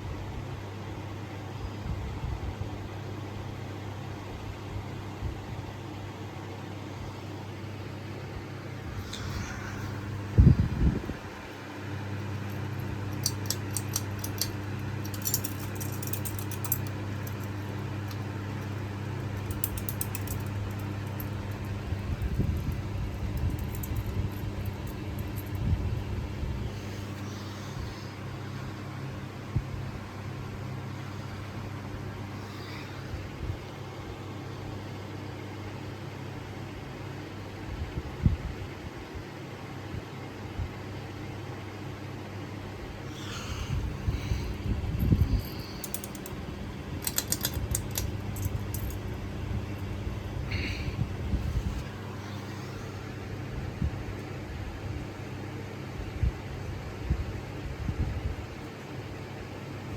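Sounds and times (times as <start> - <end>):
ceiling fan motor humming: 0.0 - 59.9.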